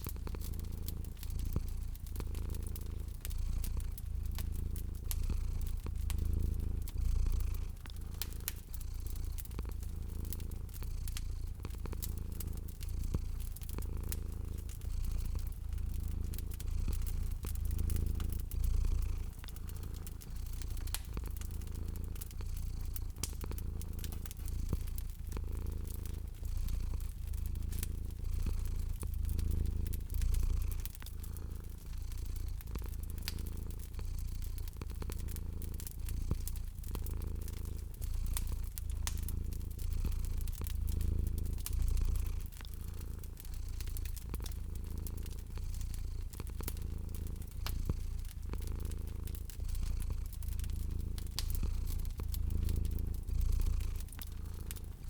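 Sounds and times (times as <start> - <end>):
cat purring: 0.0 - 55.0
fireplace fire crackling: 0.0 - 55.0.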